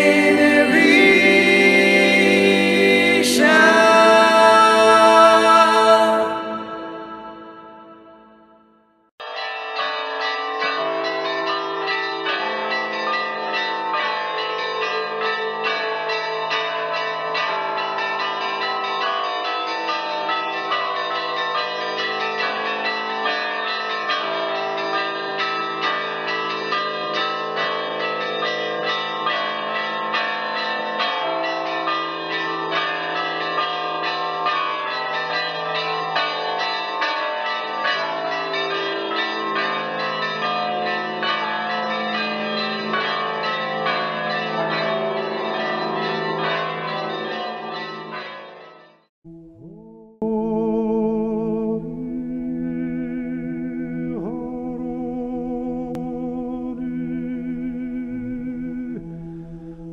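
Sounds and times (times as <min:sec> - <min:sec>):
church bells ringing: 0:00.0 - 0:49.0.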